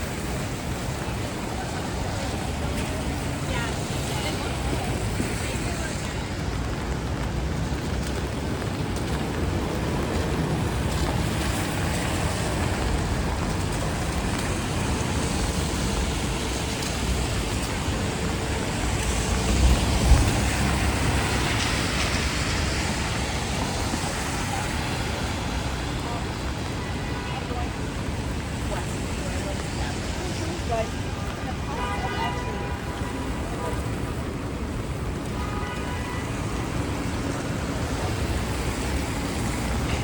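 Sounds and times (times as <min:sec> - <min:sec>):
tyres hissing on wet pavement: 0:00.0 - 0:40.0.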